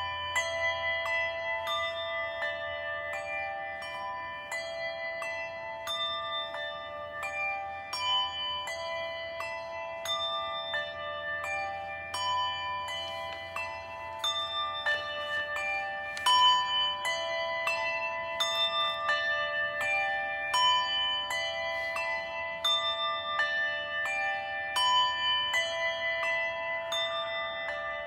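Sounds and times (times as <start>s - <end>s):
bells tolling: 0.0s - 28.0s.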